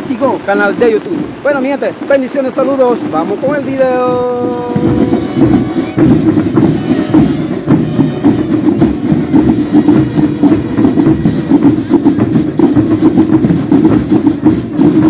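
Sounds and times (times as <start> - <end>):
fast steady drumming: 0.0 - 15.0
marching band playing: 0.0 - 15.0.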